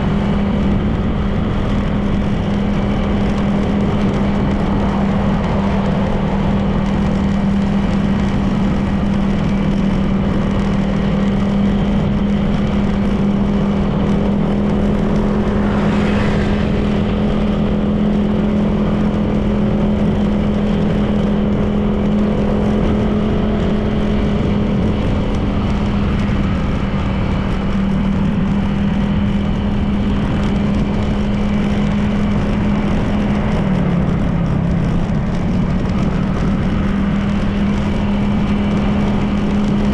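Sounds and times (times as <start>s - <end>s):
road and wind noise: 0.0s - 39.9s
scooter engine running: 0.0s - 39.9s.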